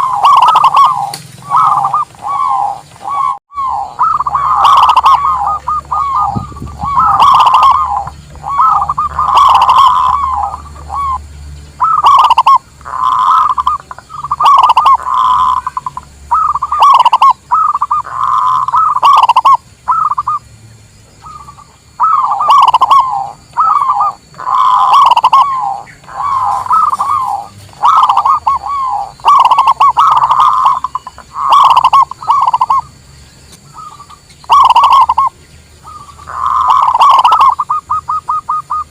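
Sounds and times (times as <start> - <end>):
doves cooing: 0.0 - 20.5, 21.2 - 38.9.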